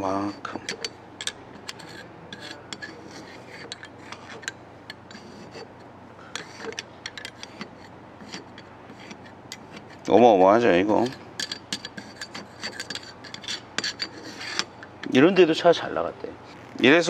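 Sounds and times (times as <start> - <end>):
metal blade scraping carbon: 0.1 - 15.3.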